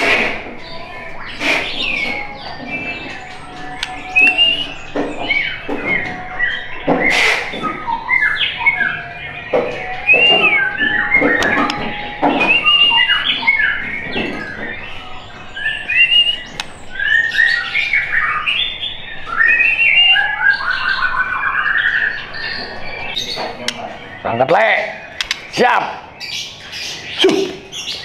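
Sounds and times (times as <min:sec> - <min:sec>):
bird singing whistles and trills: 0:00.1 - 0:28.0.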